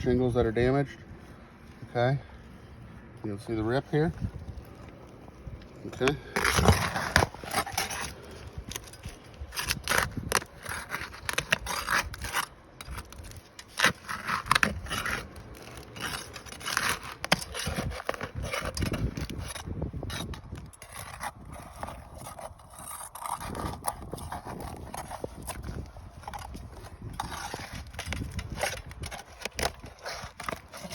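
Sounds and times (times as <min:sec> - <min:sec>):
shingles scraping and crackling: 0:00.1 - 0:30.9
shingles ripping: 0:04.5 - 0:30.9.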